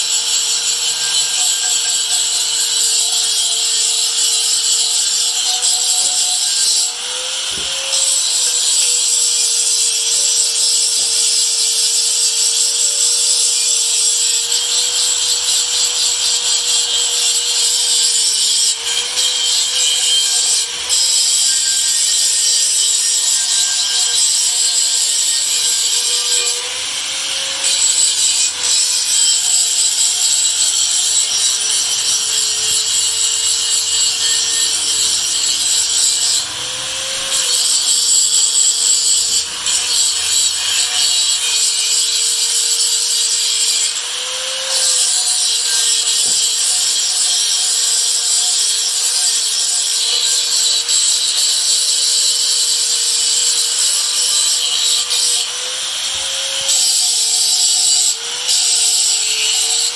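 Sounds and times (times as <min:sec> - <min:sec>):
electric sander on metal: 0:00.0 - 0:59.9.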